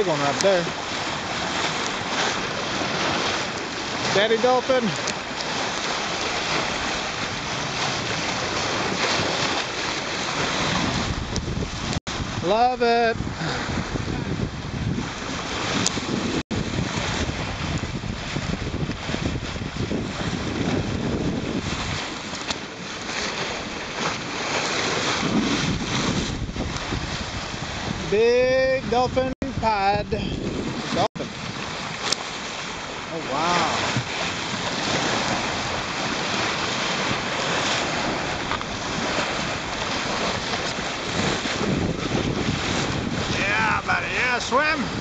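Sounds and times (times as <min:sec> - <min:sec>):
water rushing along boat hull: 0:00.0 - 0:45.0
wind buffeting microphone: 0:00.0 - 0:45.0.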